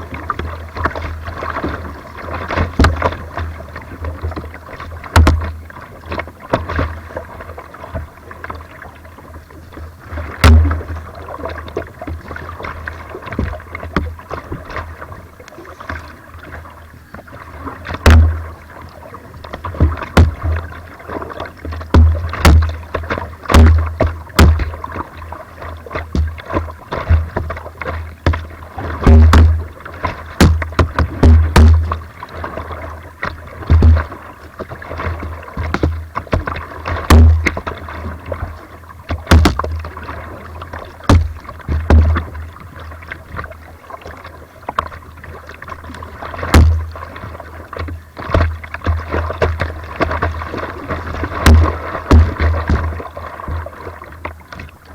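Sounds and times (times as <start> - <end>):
paddle strokes splashing: 0.0 - 54.9
rushing water: 0.0 - 54.9.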